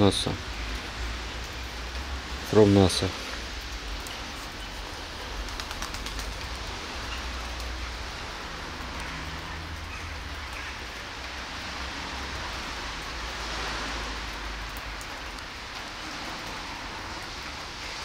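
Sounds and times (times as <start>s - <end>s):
rain on wet pavement: 0.0s - 18.0s.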